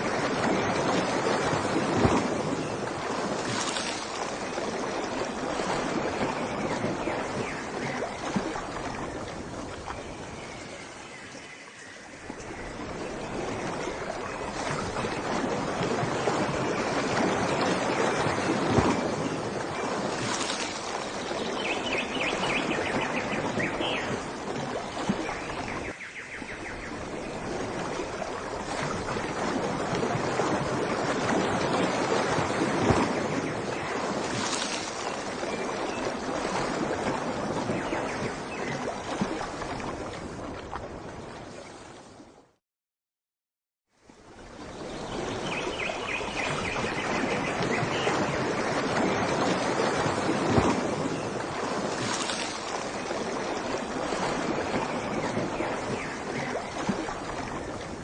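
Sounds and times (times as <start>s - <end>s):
rushing water: 0.0s - 42.6s, 43.9s - 58.0s.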